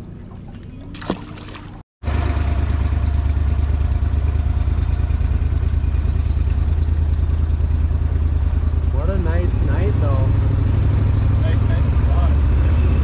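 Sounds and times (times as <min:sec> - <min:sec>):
outboard engine drone: 0:00.0 - 0:13.0.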